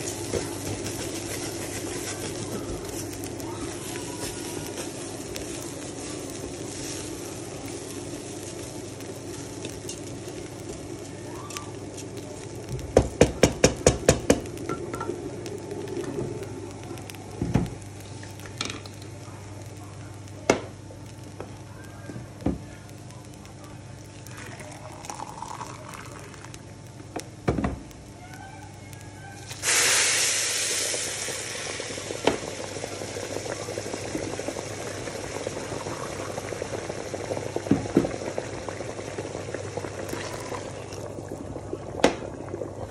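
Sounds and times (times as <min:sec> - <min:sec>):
liquid hissing in hot pan: 0:00.0 - 0:19.8, 0:27.9 - 0:42.9
food frying in a pan: 0:00.0 - 0:42.9.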